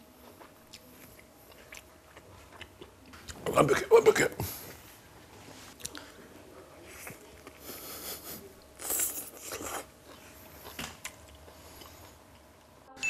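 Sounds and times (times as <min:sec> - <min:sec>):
man biting and chewing food: 0:00.0 - 0:04.8, 0:05.7 - 0:06.1, 0:07.0 - 0:12.7.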